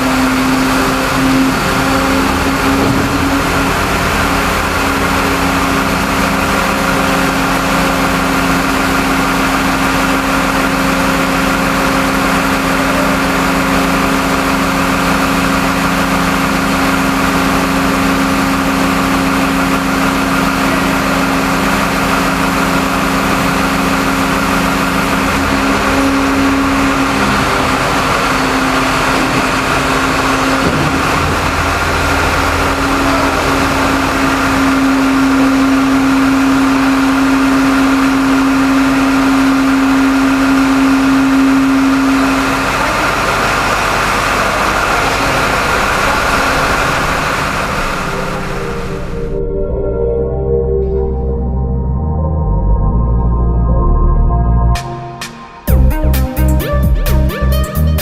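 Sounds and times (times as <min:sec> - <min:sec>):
machinery engine hum: 0:00.0 - 0:58.0.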